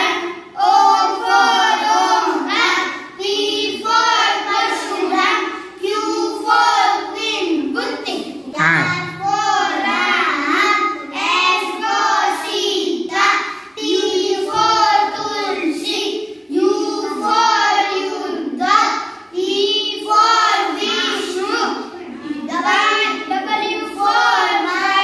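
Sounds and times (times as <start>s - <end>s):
children chanting together: 0.0s - 25.0s.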